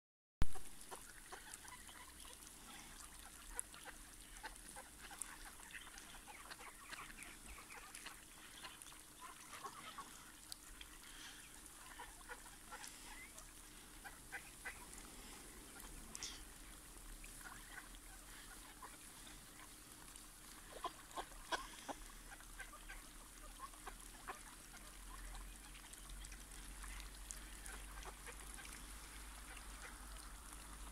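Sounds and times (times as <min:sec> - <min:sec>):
ducks quacking: 0:00.5 - 0:30.9.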